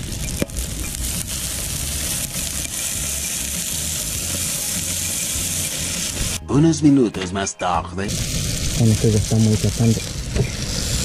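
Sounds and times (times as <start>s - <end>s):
fish frying in oil: 0.0s - 6.4s, 8.1s - 11.0s.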